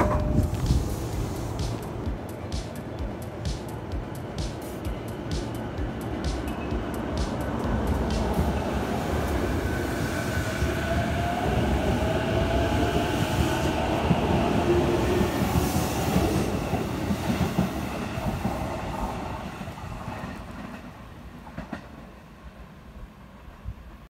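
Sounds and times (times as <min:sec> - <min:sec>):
faint rising train whine: 0:00.0 - 0:24.0
wheels rumbling on rail: 0:00.0 - 0:24.0.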